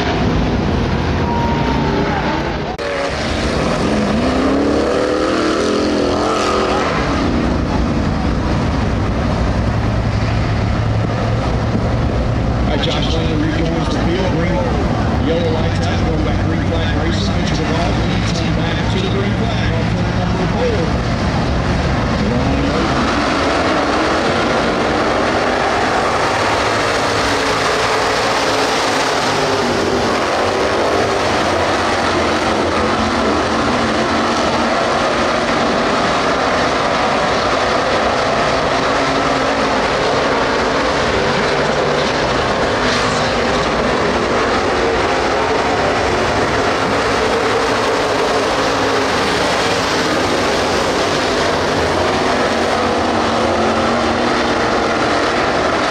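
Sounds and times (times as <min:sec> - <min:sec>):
race car engines: 0:00.0 - 0:55.9.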